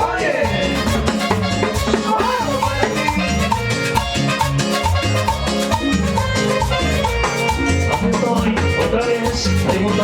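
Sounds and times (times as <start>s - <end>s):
live latin dance band playing: 0.0s - 10.0s.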